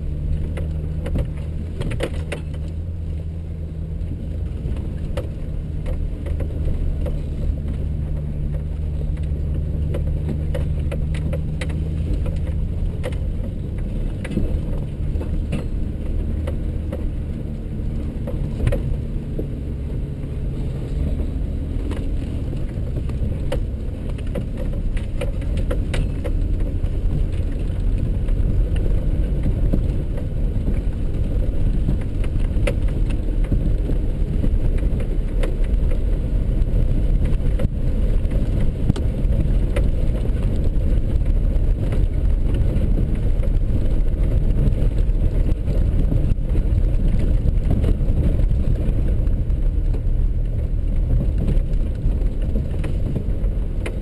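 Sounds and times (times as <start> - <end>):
engine and tyres rumble: 0.0 - 54.0
sharp clicks and knocks: 0.3 - 2.9, 4.0 - 54.0.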